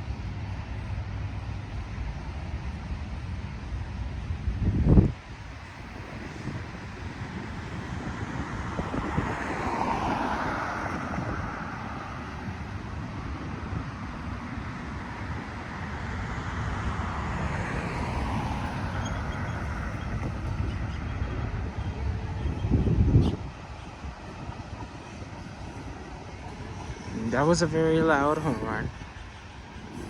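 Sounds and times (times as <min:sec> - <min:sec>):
low rumble of passing vehicles: 0:00.0 - 0:30.0
wind buffeting microphone: 0:00.0 - 0:30.0.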